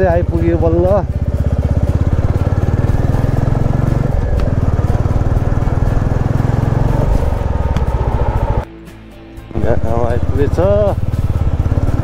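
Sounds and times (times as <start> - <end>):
motorcycle engine running: 0.0 - 8.7, 9.5 - 12.0.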